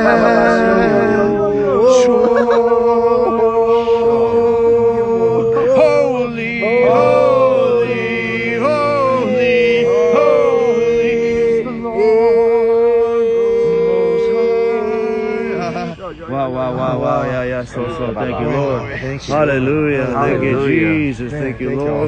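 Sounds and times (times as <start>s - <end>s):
steady drone tone: 0.0s - 22.0s.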